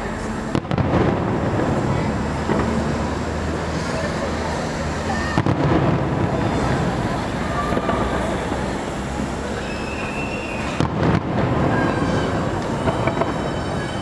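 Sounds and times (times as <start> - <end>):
distant firework bursts: 0.4 - 14.0
sharp firework bangs: 0.5 - 14.0.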